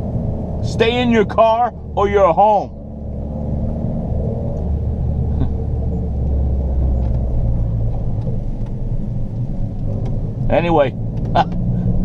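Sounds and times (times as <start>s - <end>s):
car interior driving drone: 0.0s - 12.0s.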